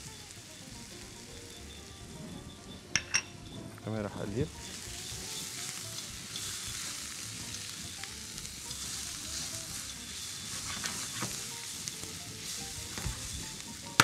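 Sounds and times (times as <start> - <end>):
vegetables sizzling in a frying pan: 0.0 - 14.0.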